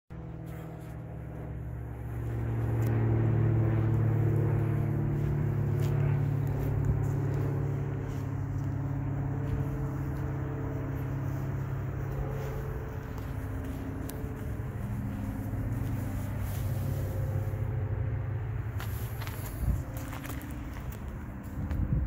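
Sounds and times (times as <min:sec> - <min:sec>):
engine idling: 0:00.1 - 0:22.0.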